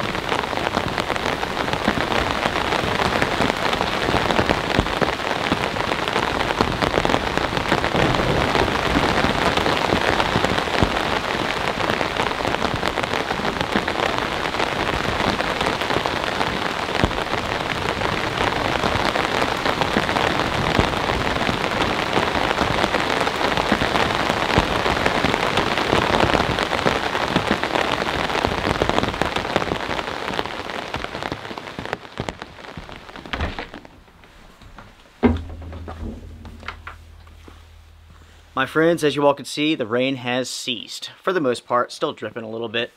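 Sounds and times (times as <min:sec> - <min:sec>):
rain falling on wet ground: 0:00.0 - 0:40.8.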